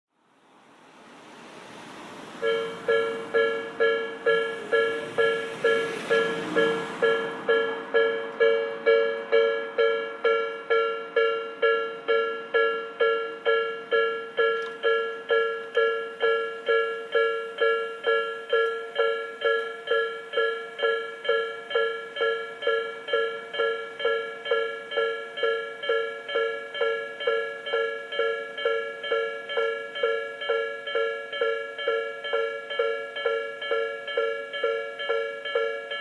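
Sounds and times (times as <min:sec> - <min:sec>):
level crossing alarm ringing: 0:02.4 - 0:36.0.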